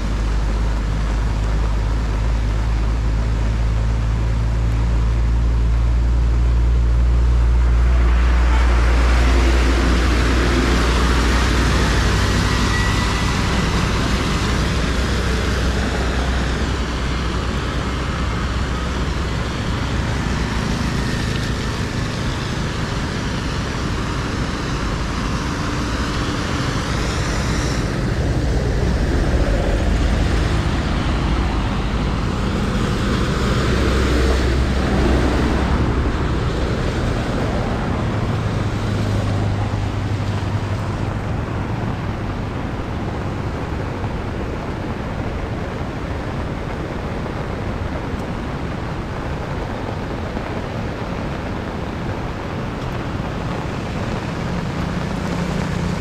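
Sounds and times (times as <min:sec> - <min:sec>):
steady traffic noise: 0:00.0 - 0:56.0
vehicles passing: 0:00.0 - 0:56.0.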